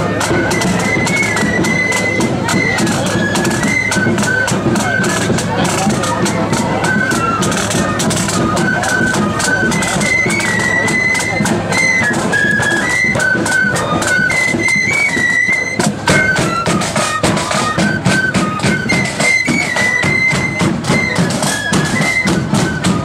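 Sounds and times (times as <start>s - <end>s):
fast side drum beating: 0.0s - 23.0s
flutes playing melody: 0.0s - 23.0s.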